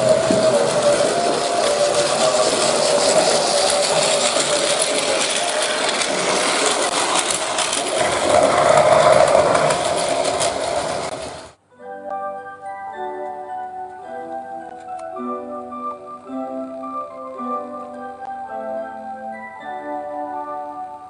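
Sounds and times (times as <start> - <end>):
train running with whine and clatter: 0.0 - 11.6, 13.2 - 21.0.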